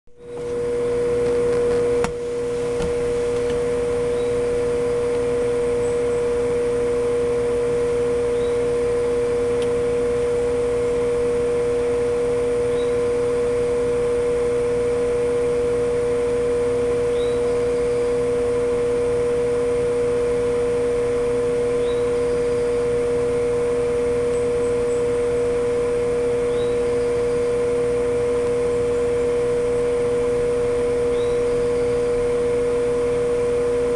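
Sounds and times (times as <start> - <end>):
fan motor humming: 0.1 - 33.9.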